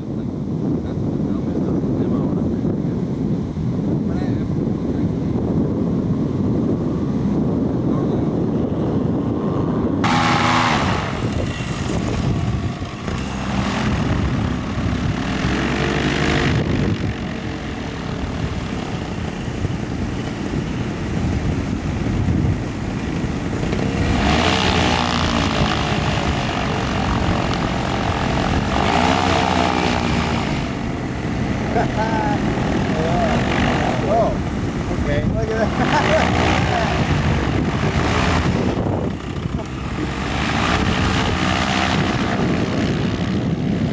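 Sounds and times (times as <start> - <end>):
propeller engine running: 0.0 - 43.9
wind noise on microphone: 0.0 - 43.9.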